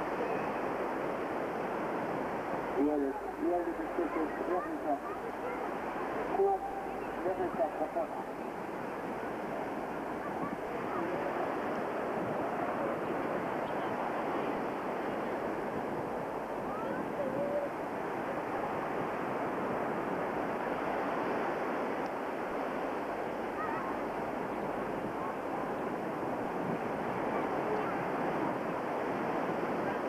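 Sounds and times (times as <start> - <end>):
sea surf: 0.0 - 30.0
wind on microphone: 0.0 - 30.0.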